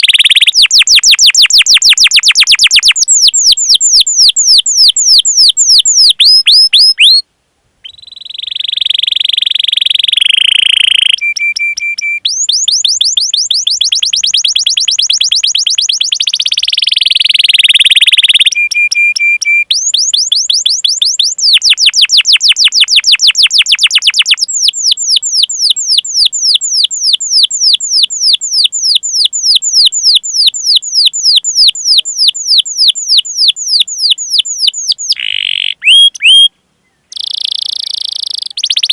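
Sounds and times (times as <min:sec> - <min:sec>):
canary singing trills: 0:00.0 - 0:07.2, 0:07.8 - 0:38.9.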